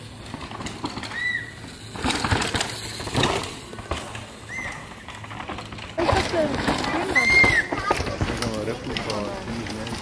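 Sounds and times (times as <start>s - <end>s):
bike clattering: 0.0s - 10.0s
bike tyres skidding on stones: 0.0s - 10.0s.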